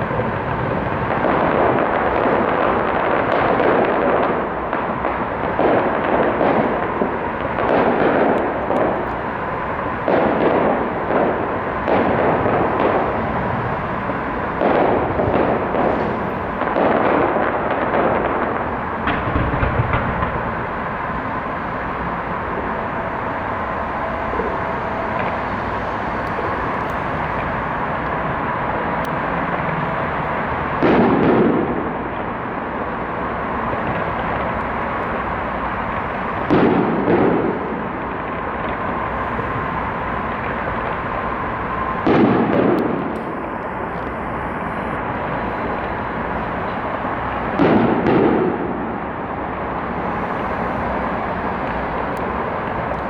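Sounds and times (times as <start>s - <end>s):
fireworks booming: 0.0s - 53.0s
steady background noise: 0.0s - 53.0s.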